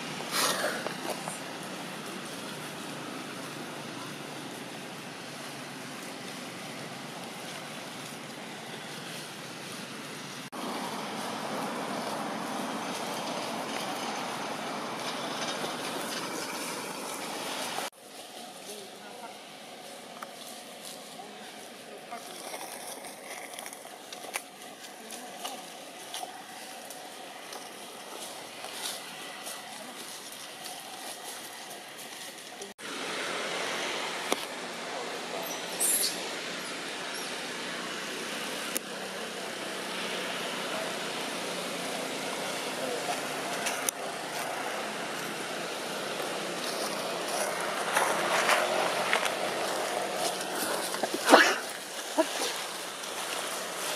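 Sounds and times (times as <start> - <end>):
outdoor background noise: 0.0 - 53.9.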